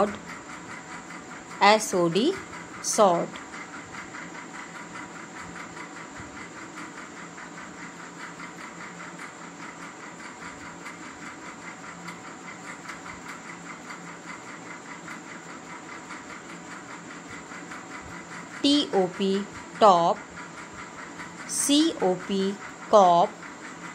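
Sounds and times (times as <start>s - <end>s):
mechanical whir with flutter: 0.0s - 23.9s.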